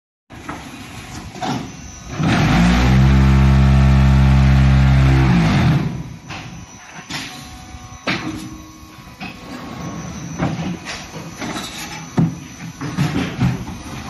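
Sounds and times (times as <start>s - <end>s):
vibration motors humming: 0.9s - 14.0s.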